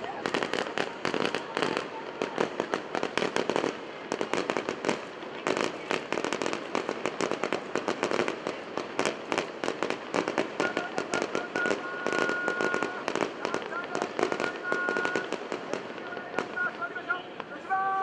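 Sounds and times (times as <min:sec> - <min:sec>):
fireworks popping and crackling: 0:00.0 - 0:18.0.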